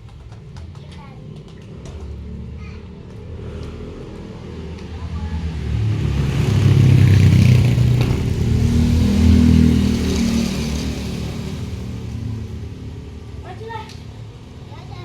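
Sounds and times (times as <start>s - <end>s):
passing vehicle engine: 0.0s - 15.0s.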